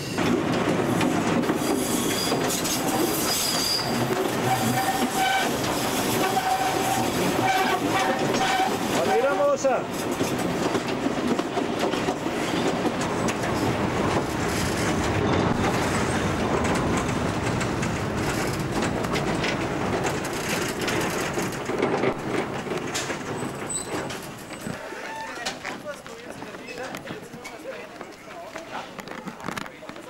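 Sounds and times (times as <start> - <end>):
train rumble: 0.0 - 30.0
wheels clattering over rail joints: 0.0 - 30.0.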